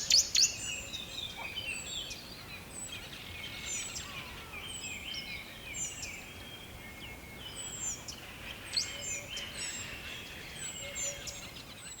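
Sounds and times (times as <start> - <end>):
outdoor background hiss: 0.0 - 12.0
songbirds chirping and singing: 0.0 - 12.0.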